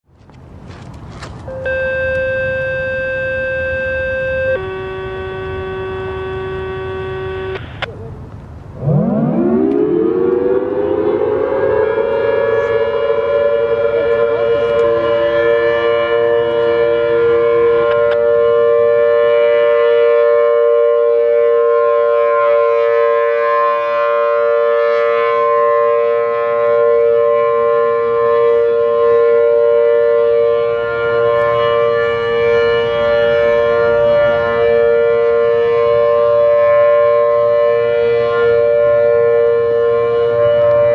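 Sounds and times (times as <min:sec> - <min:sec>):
outdoor warning siren: 0:00.1 - 0:40.9.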